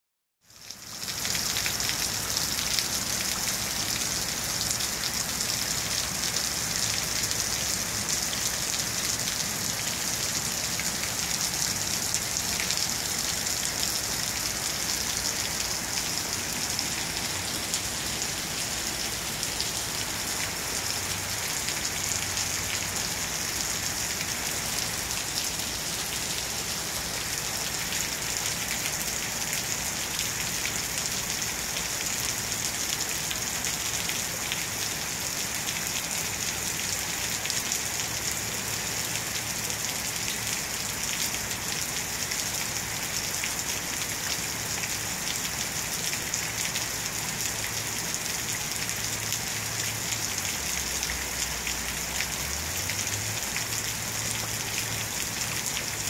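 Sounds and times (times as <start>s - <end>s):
heavy rain falling: 0.6s - 56.0s.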